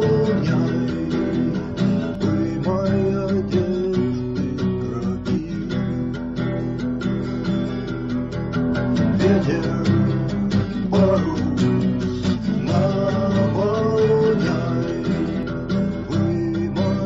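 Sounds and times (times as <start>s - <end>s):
song with strummed acoustic guitar: 0.0s - 17.0s.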